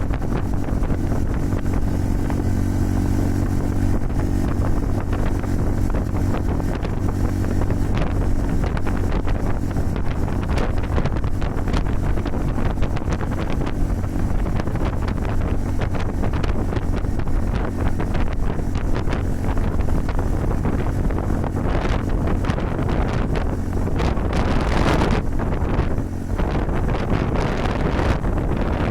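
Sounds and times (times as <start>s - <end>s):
motorcycle engine cruising: 0.0s - 28.9s
wind buffeting microphone: 0.0s - 28.9s.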